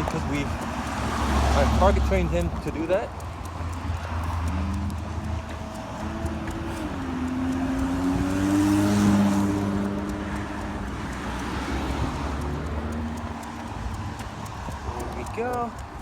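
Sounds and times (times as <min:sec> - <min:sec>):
car passing by: 0:00.0 - 0:16.0.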